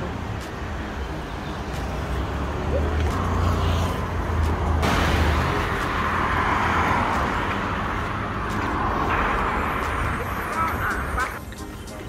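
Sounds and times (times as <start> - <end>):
hiss of passing vehicles: 0.0 - 12.0
low traffic rumble: 0.0 - 12.0.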